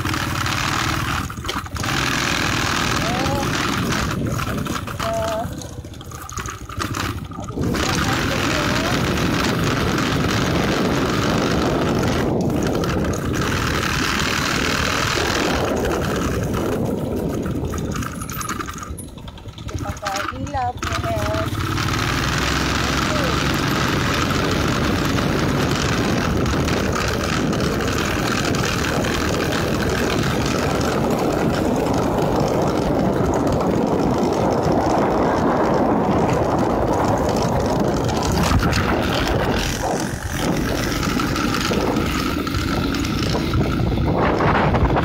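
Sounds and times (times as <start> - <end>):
motorcycle engine running: 0.0 - 45.0
wind on microphone: 0.0 - 45.0.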